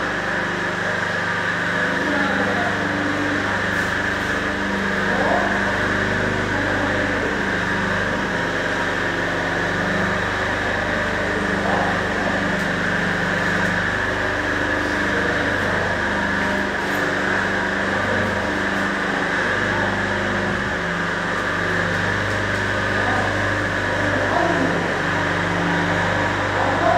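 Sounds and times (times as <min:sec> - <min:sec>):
machine motors humming: 0:00.0 - 0:26.9.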